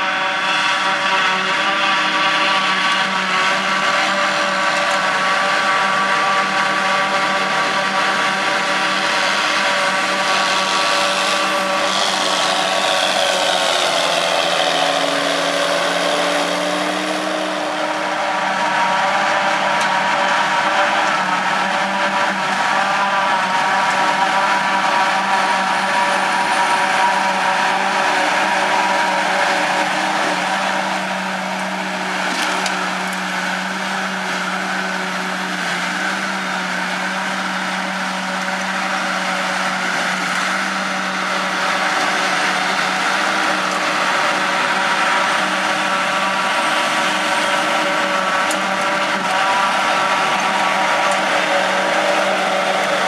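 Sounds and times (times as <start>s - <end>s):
forage harvester droning whine: 0.0s - 53.0s
tractor hauling trailer: 0.0s - 53.0s.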